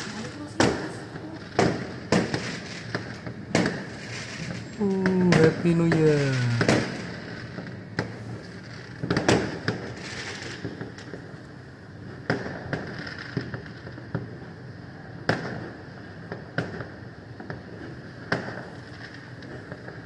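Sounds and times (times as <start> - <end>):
fireworks bangs and pops: 0.0 - 20.0
fireworks crackle: 0.0 - 20.0.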